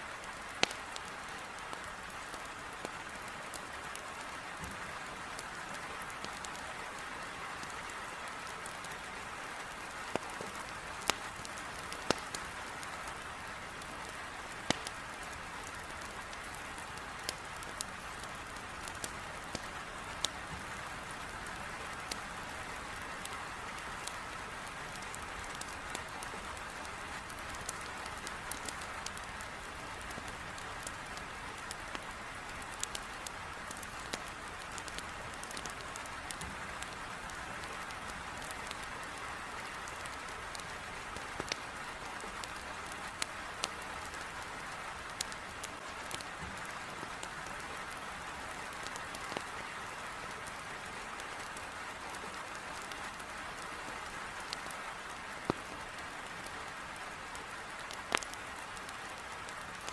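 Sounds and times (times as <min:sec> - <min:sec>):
heavy rain on a window: 0:00.0 - 0:59.9
wood fire crackling: 0:00.1 - 0:59.9.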